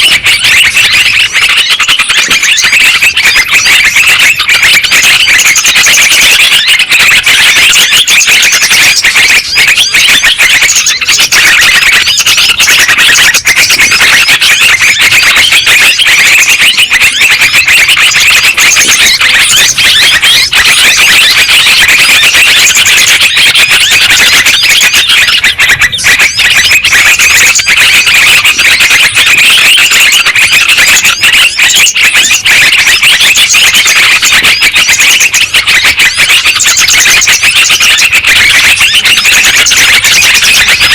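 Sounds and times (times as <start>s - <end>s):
chorus of birds chattering: 0.0s - 40.9s.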